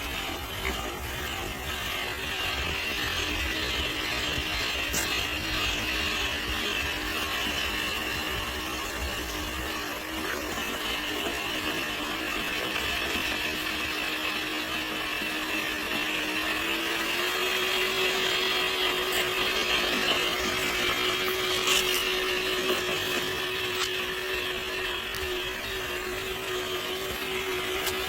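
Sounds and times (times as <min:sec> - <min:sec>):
electric motor whining: 0:00.0 - 0:28.0.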